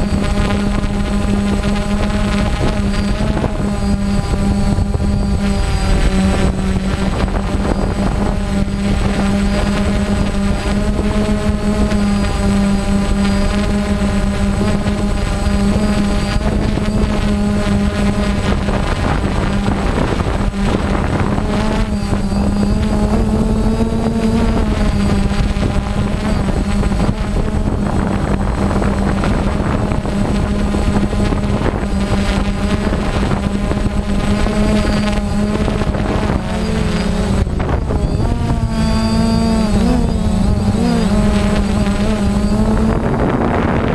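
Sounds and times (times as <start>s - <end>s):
drone propellers humming: 0.0s - 43.9s.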